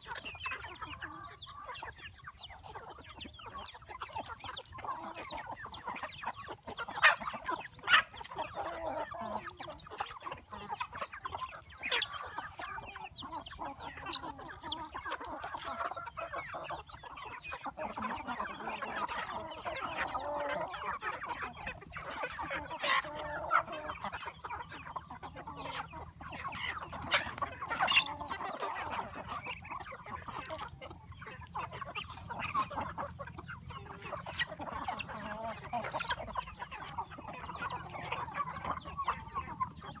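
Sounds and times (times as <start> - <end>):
chickens clucking and chirping: 0.0 - 40.0.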